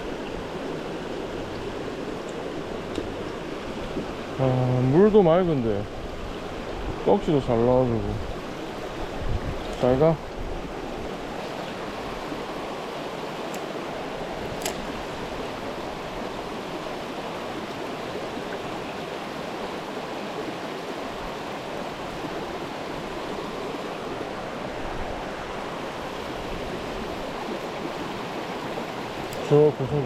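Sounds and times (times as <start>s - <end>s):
stream water rushing over rocks: 0.0s - 30.0s.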